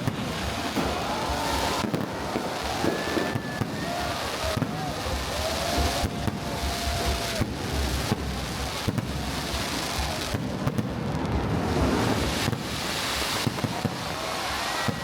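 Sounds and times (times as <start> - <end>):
fireworks bursting: 0.0 - 15.0
fireworks pops and crackles: 0.0 - 15.0.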